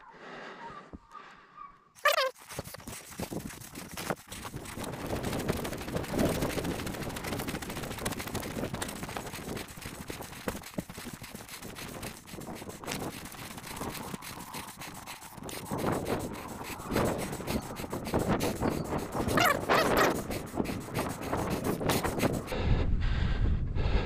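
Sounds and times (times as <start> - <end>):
wind buffeting microphone: 2.8 - 24.0.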